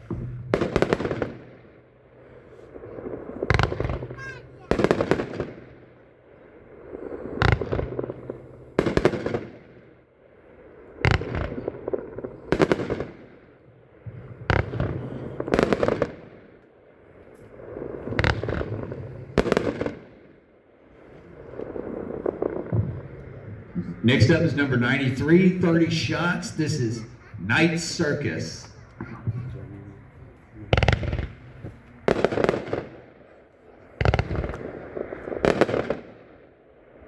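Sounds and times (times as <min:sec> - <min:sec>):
firework bangs: 0:00.0 - 0:37.0.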